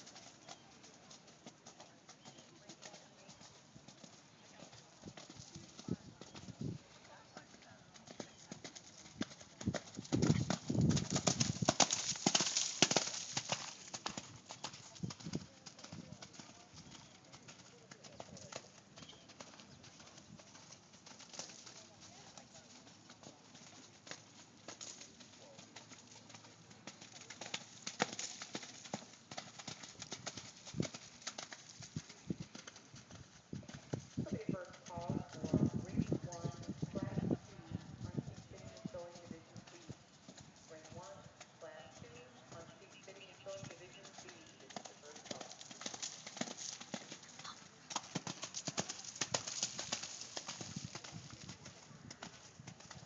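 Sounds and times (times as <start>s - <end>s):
horse hoofbeats on mud: 0.0s - 53.0s.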